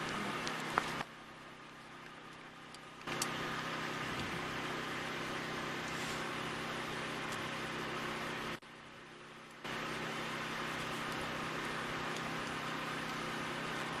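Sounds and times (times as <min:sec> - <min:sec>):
mechanical motor hum: 0:00.0 - 0:14.0.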